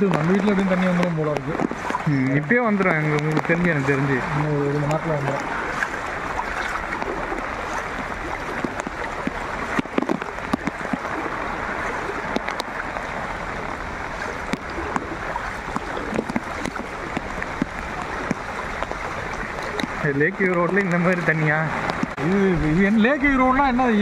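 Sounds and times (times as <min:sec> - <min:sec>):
heavy rain on flooded street: 0:00.0 - 0:24.0.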